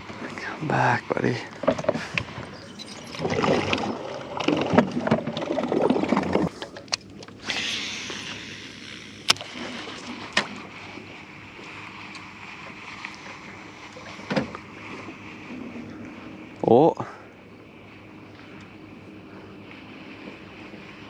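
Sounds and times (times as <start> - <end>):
water sloshing around a boat: 0.0 - 21.0.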